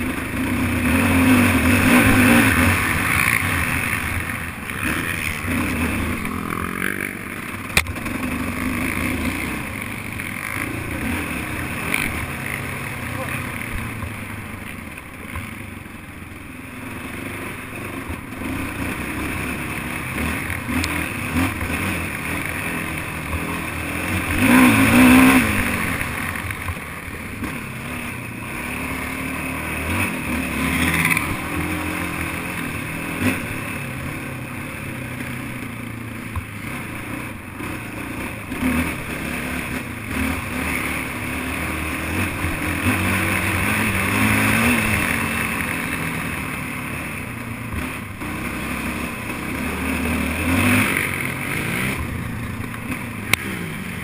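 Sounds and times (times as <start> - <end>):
quad engine revving: 0.0 - 15.8, 16.4 - 54.0.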